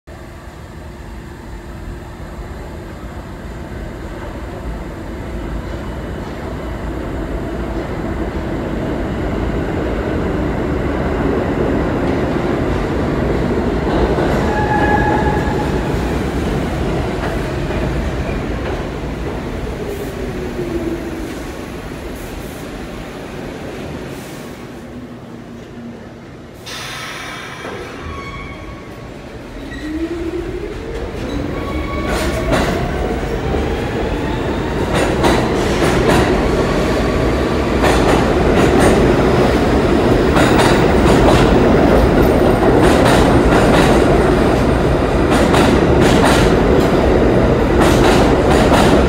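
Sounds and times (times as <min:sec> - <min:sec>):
subway train wheels rumbling: 0:00.1 - 0:49.0.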